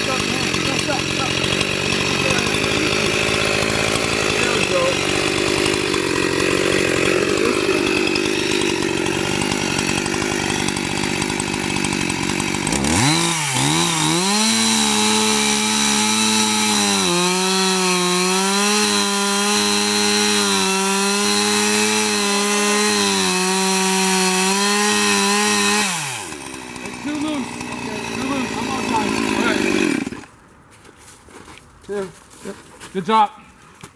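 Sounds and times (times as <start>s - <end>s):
chainsaw cutting wood: 0.0s - 30.4s.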